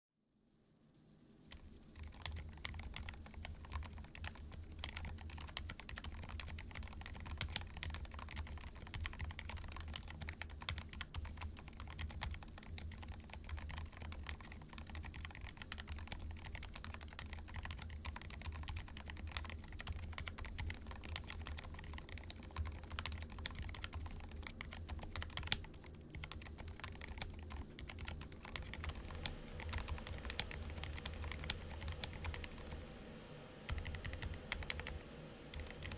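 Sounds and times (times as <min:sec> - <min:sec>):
mechanical keyboard typing: 0:01.5 - 0:32.8, 0:33.7 - 0:35.9.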